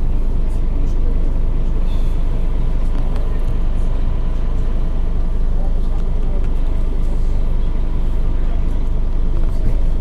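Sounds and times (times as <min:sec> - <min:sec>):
bus diesel engine rumbling: 0:00.0 - 0:10.0.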